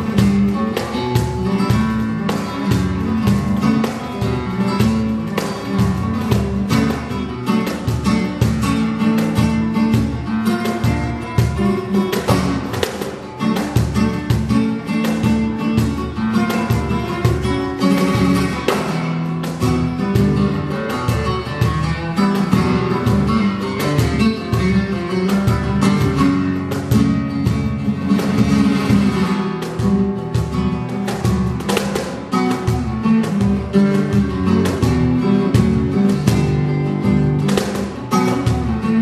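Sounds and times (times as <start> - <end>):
cajon beating: 0.0 - 39.0
flamenco guitar: 0.0 - 39.0.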